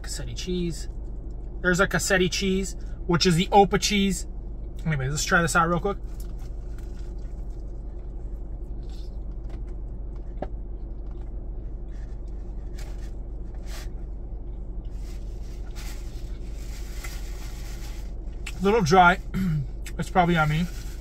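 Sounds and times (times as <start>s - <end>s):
car cabin hum: 0.0s - 21.0s.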